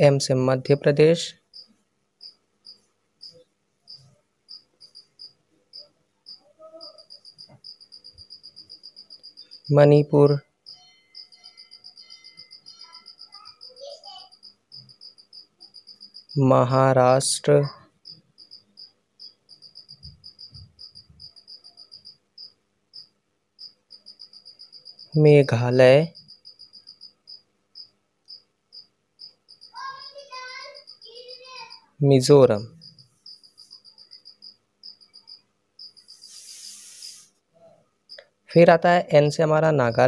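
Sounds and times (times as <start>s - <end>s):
cricket chirping: 1.4s - 16.8s, 17.7s - 31.9s, 32.5s - 37.3s, 38.1s - 40.0s.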